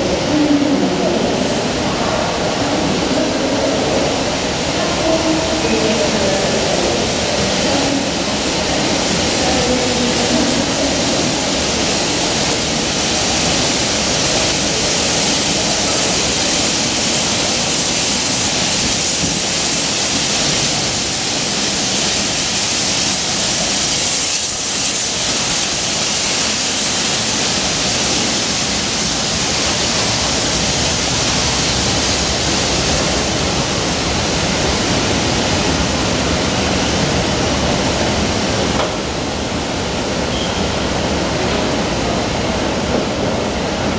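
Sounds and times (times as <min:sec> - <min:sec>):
train wheels on rails: 0:00.0 - 0:43.9.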